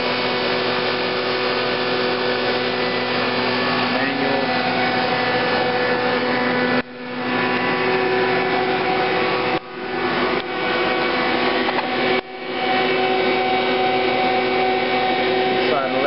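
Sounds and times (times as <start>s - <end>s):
machinery drone with hum tones: 0.0s - 16.0s.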